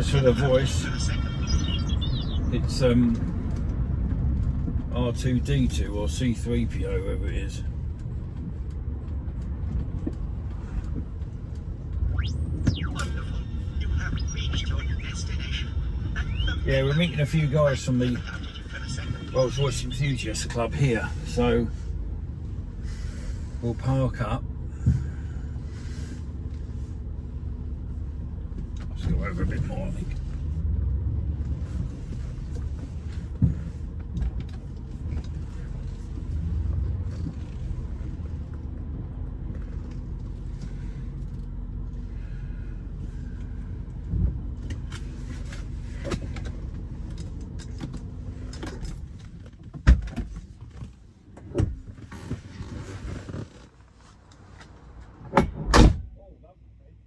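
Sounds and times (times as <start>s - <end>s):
car engine: 0.0s - 57.0s
road noise: 0.0s - 57.0s.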